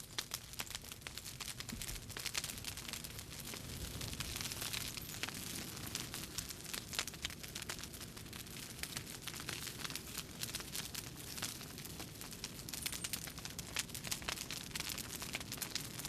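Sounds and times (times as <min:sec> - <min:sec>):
crackling and popping: 0:00.0 - 0:16.0.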